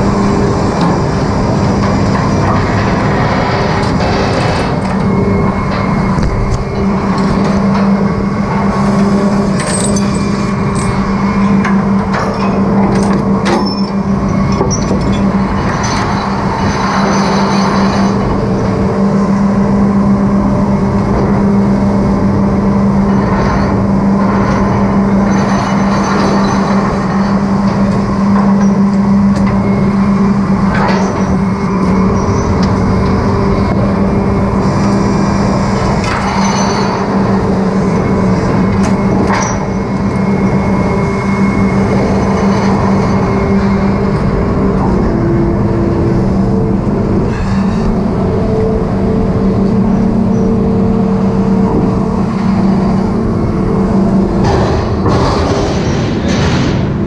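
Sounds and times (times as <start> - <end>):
sea rushing along hull: 0.0 - 54.6
engine and machinery hum: 0.0 - 57.0.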